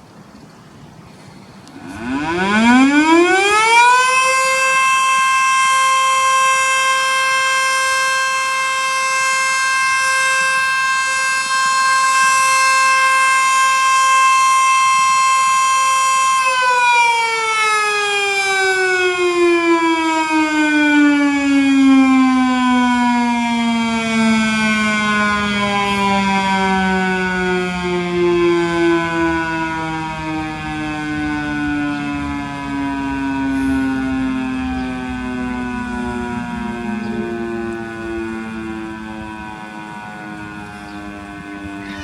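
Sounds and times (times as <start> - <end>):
outdoor warning siren: 1.5 - 42.0.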